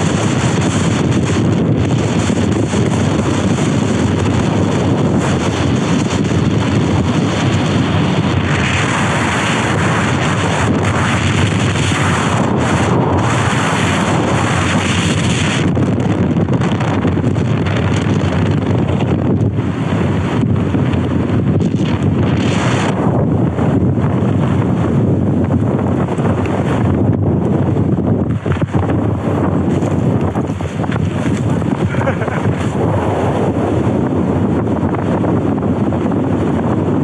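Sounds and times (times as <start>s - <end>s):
storm wind buffeting microphone: 0.0s - 37.0s.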